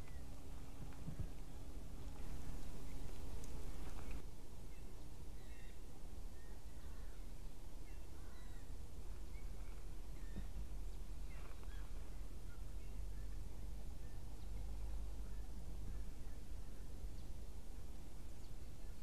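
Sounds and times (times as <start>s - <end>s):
distant birds chirping: 0.0s - 19.0s
low background rumble: 0.0s - 19.0s.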